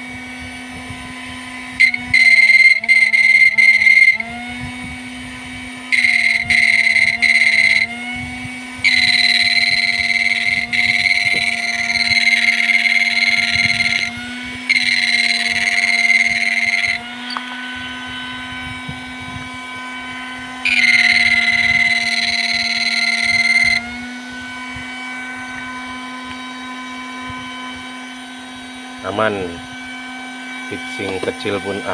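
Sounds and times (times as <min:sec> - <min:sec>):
high-pitched electronic whine: 0:00.0 - 0:31.9
low electronic hum: 0:00.0 - 0:31.9.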